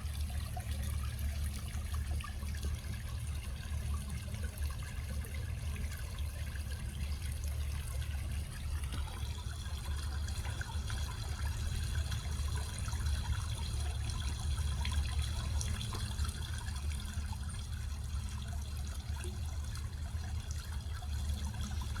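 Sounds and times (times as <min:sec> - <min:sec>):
fountain water trickling: 0:00.0 - 0:22.0
low steady rumble: 0:00.0 - 0:22.0.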